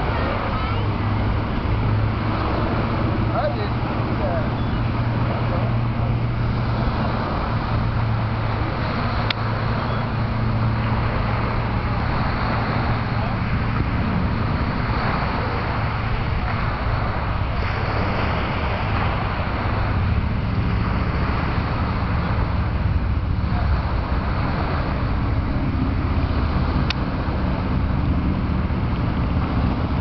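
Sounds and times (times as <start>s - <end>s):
distant road traffic: 0.0s - 30.0s
wind on microphone: 0.0s - 30.0s.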